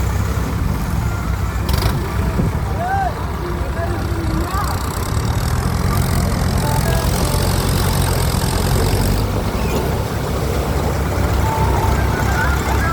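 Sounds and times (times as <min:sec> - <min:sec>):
vehicle engine rumbling: 0:00.0 - 0:12.9.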